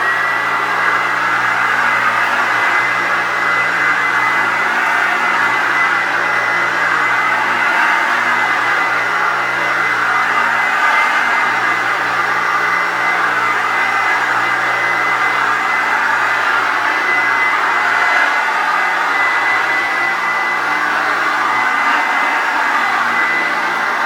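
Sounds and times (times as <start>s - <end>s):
thin steady whine: 0.0s - 24.0s
upright vacuum cleaner running: 0.0s - 24.0s.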